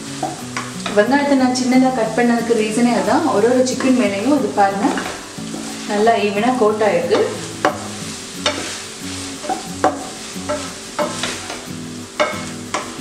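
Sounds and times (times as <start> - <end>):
soft sizzle: 0.0 - 13.0
spatula scraping frying pan: 2.4 - 13.0.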